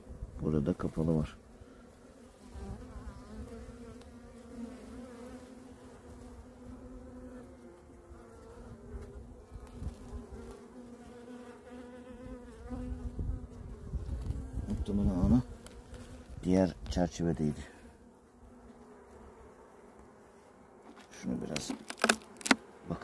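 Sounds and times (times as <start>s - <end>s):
honeybee colony buzzing: 0.0s - 23.0s.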